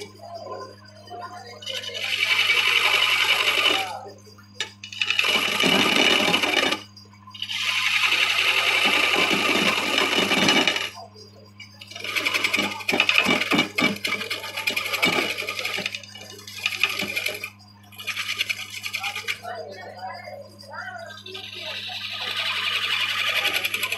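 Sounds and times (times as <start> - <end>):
electric motor hum: 0.0 - 23.9
woodworking machine cutting wood: 1.2 - 20.2, 21.0 - 23.9.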